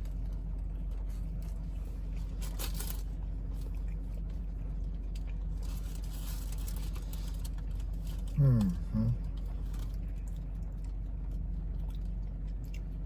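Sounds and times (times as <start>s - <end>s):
crunching and chewing: 0.0s - 13.0s
steady low hum: 0.0s - 13.0s.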